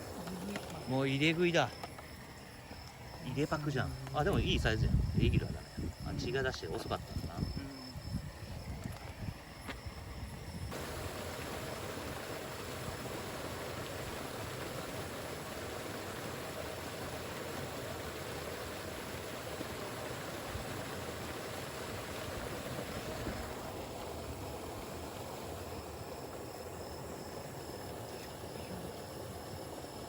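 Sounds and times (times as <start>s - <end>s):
rushing water hiss: 0.0s - 30.0s.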